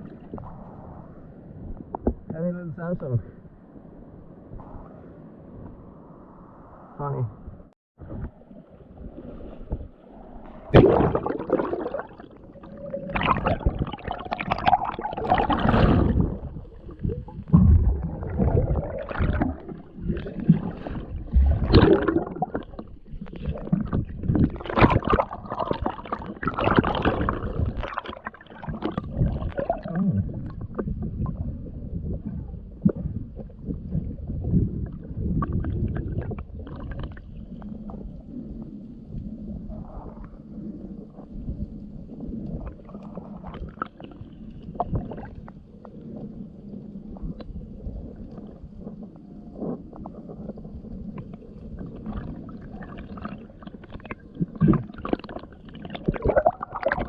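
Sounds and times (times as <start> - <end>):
underwater gurgling and rushing water: 0.0 - 2.3, 8.0 - 57.0.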